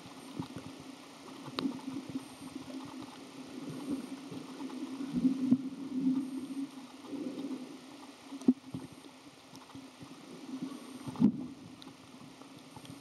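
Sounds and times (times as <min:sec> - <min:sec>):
low underwater hum: 0:00.0 - 0:13.0.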